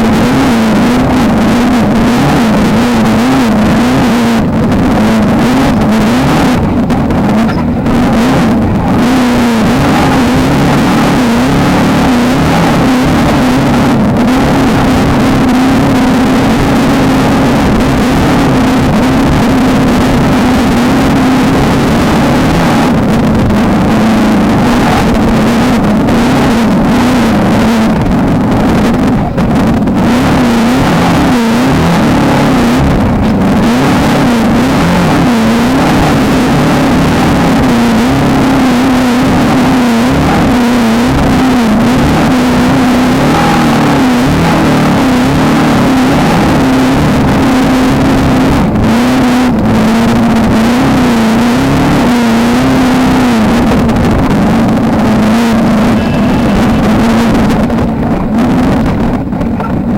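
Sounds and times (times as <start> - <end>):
constant rushing noise: 0.0 - 59.9
race car engine revving: 0.0 - 59.9.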